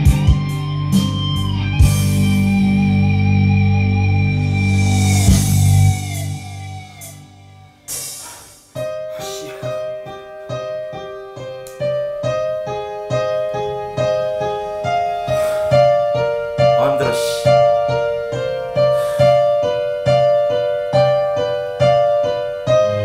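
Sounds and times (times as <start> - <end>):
piano karaoke backing track: 0.0 - 23.0.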